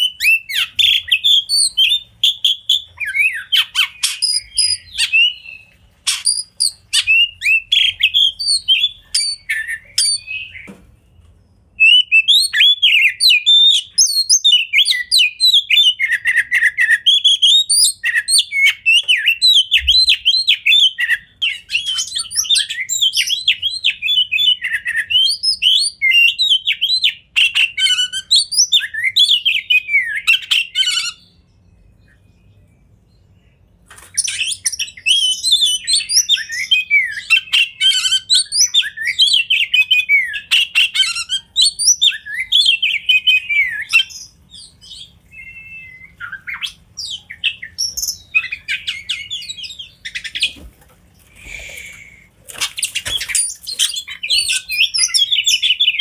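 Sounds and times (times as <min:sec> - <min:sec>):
bird singing rapid phrases: 0:00.0 - 0:50.7, 0:51.4 - 0:56.0.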